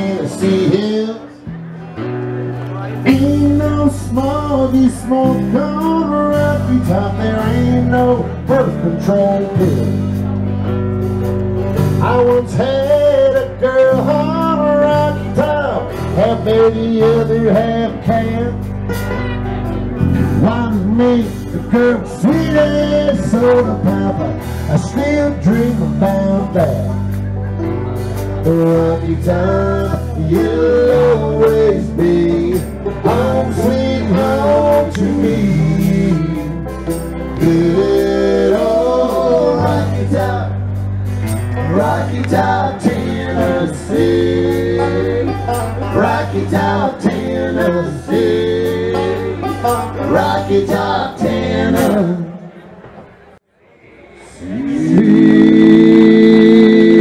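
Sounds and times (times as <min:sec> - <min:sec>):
bending lead guitar line: 0:00.0 - 0:53.0
bass guitar notes: 0:00.0 - 0:57.0.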